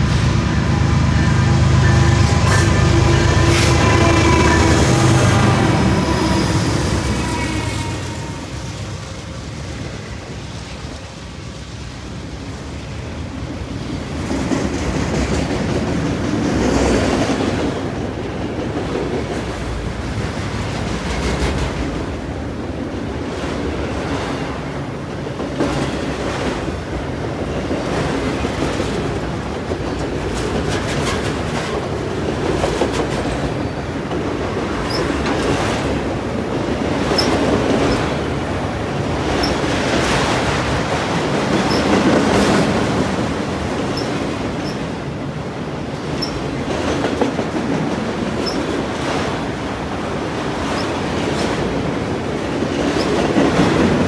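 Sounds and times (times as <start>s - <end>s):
train wheels rumbling and clacking: 0.0s - 54.0s.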